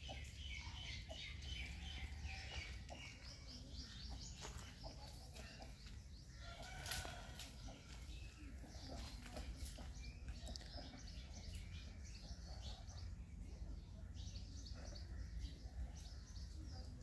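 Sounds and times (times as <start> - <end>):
chickens and roosters clucking: 0.0 - 17.0.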